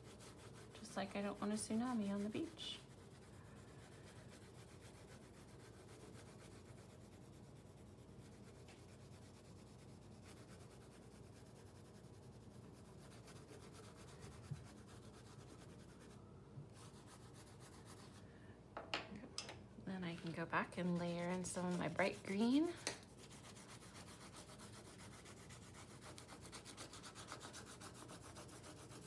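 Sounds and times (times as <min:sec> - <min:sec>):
colored pencil scratching paper: 0:00.0 - 0:18.2, 0:20.1 - 0:29.0.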